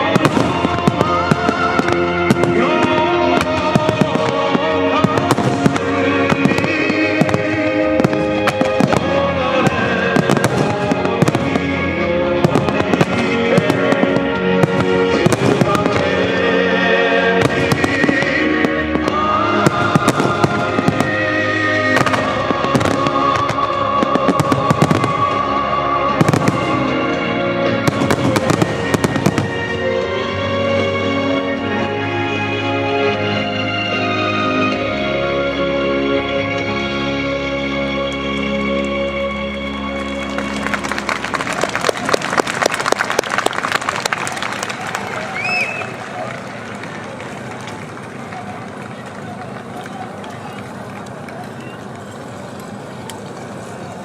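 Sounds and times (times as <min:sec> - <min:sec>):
orchestral music: 0:00.0 - 0:54.0.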